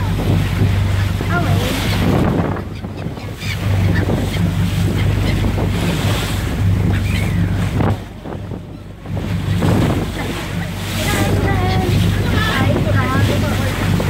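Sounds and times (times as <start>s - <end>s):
boat engine humming: 0.0s - 14.0s
water rushing past boat: 0.0s - 14.0s
wind buffeting microphone: 0.0s - 14.0s.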